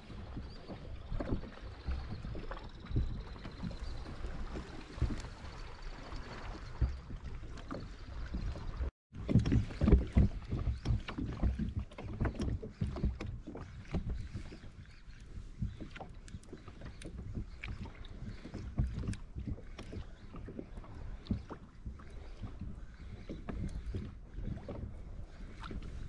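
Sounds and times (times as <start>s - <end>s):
water lapping against kayak hull: 0.0s - 26.0s
water splashing: 0.0s - 26.0s
knocks and creaks of fishing gear: 0.1s - 26.0s.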